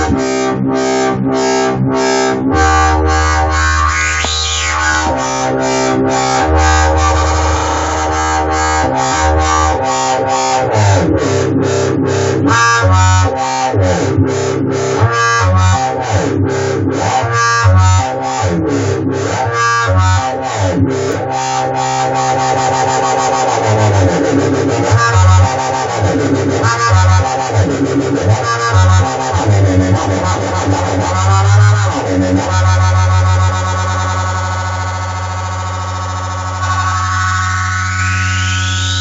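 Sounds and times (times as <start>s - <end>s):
sustained synth bass line: 0.0s - 39.0s
distorted chopped synth pulsing: 0.1s - 39.0s.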